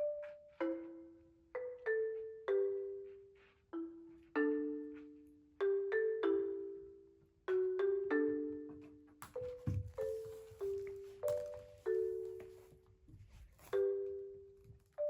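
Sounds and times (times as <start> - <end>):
marimba melody: 0.0 - 3.2, 3.8 - 12.7.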